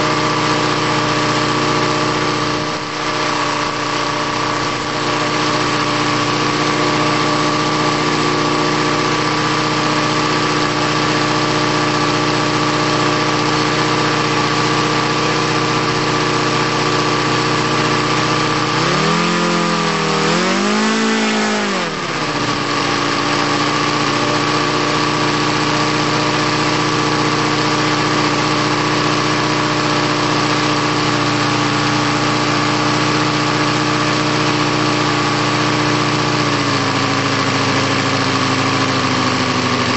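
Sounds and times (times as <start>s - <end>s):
model aircraft engine running: 0.0s - 39.9s.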